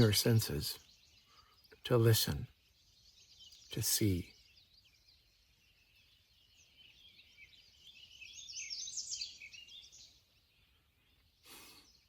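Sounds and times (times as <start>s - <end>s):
songbirds chirping and twittering: 0.0s - 12.0s.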